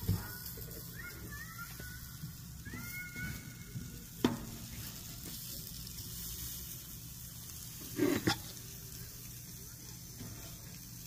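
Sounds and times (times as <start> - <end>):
sausage and vegetables sizzling on griddle: 0.0 - 11.0.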